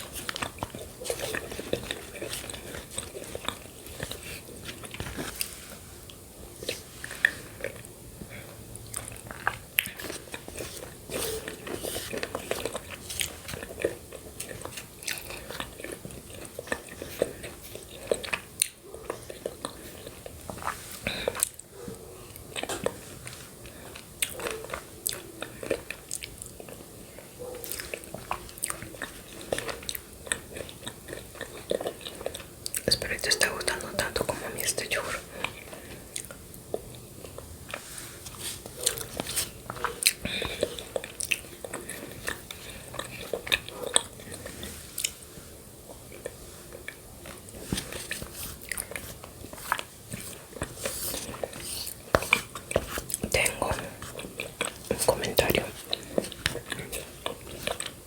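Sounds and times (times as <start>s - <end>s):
mouth chewing with wet clicks: 0.0s - 37.9s, 38.6s - 58.0s.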